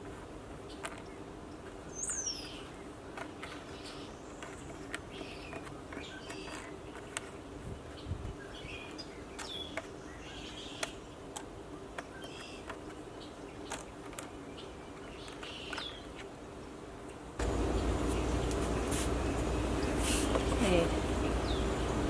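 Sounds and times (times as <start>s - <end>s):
faint steady hum: 0.0s - 22.0s
small birds chirping: 0.6s - 16.3s, 17.4s - 22.0s.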